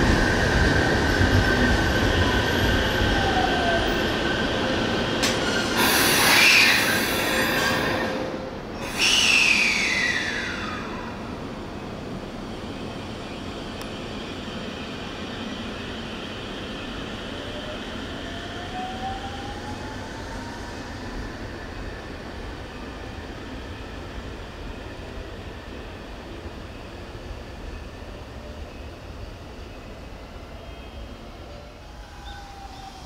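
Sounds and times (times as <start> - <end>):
train steady hum: 0.0 - 33.0.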